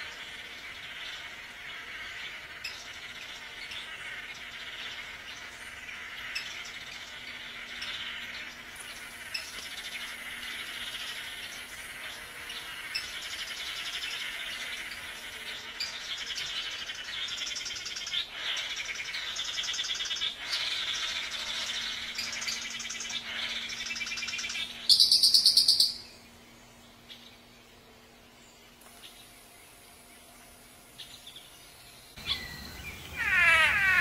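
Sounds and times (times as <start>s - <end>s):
birds buzzing pulsed calls: 0.0s - 34.0s.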